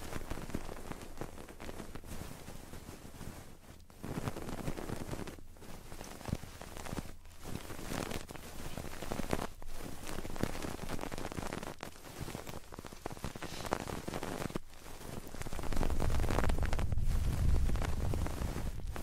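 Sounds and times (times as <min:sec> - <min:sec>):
fingers crackling on microphone: 0:00.0 - 0:19.0.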